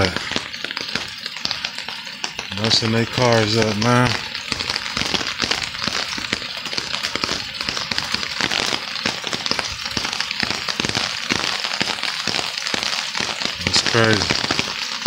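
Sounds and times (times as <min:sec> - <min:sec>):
heavy rain on hard surfaces: 0:00.0 - 0:15.0.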